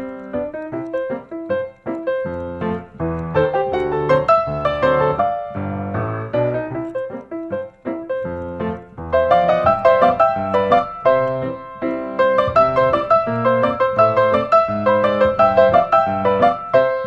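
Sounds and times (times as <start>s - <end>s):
light piano melody: 0.0s - 17.0s.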